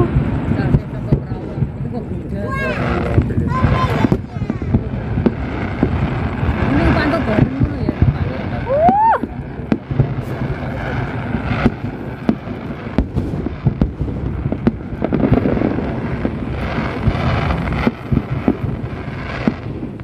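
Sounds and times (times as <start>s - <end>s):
fireworks bangs: 0.0s - 20.0s
low rumble: 0.0s - 20.0s.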